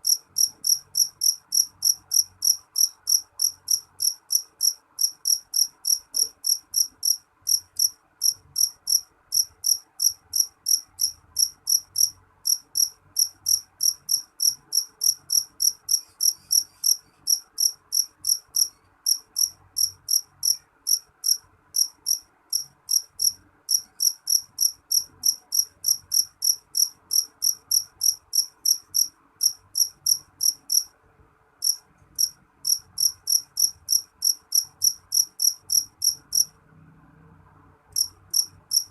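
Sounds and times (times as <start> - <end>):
cricket chirping: 0.0 - 30.9, 31.6 - 36.5, 38.0 - 38.9.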